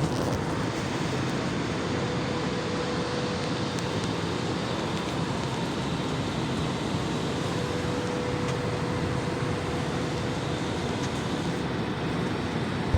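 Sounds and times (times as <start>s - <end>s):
airplane engines and airflow in cabin: 0.0s - 12.9s.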